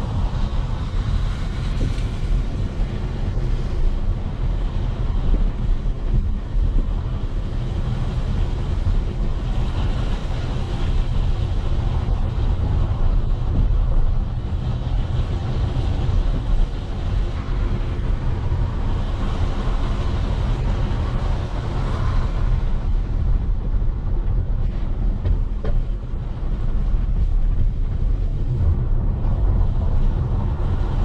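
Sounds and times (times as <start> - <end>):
engine and road rumble: 0.0 - 31.0
wind buffeting microphone: 0.0 - 31.0.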